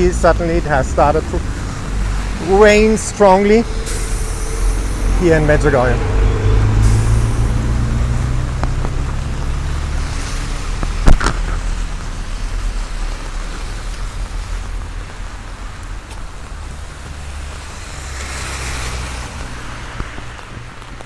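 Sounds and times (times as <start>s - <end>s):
heavy rain: 0.0s - 21.0s
vehicle engine rumbling: 0.0s - 21.0s.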